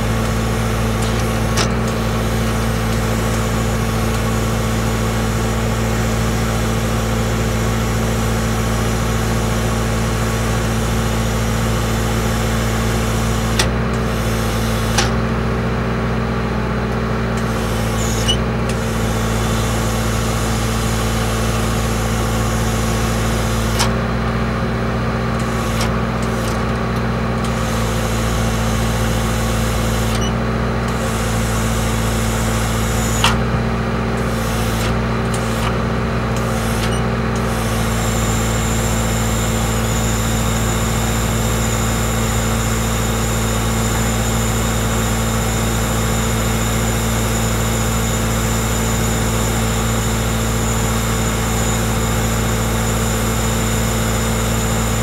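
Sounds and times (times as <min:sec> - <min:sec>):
loader engine running: 0:00.0 - 0:55.0.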